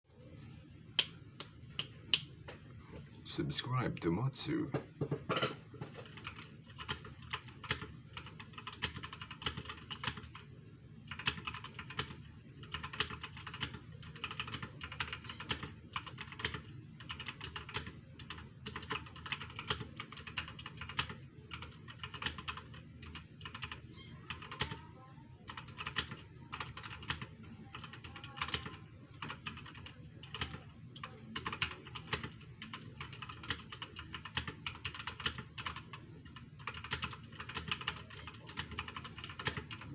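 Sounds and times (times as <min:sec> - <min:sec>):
fast typing on keyboard: 0:06.0 - 0:24.8, 0:25.4 - 0:39.9.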